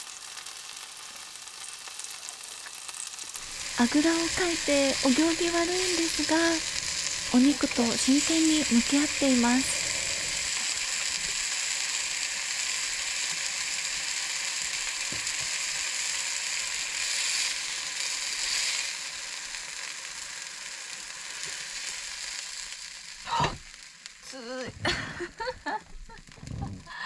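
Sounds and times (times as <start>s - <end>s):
meat sizzling on a griddle: 0.0s - 27.0s.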